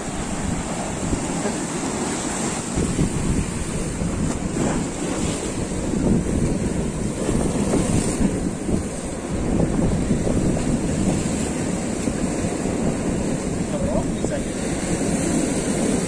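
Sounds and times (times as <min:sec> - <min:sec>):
surf washing over rocks: 0:00.0 - 0:16.0
wind buffeting microphone: 0:00.0 - 0:16.0.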